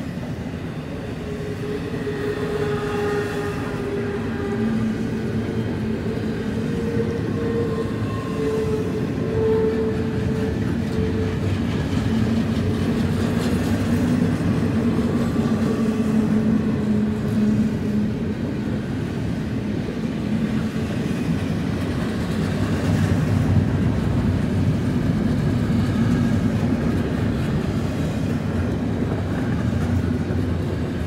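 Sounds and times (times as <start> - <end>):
steel wheels on rail: 0.0 - 31.0.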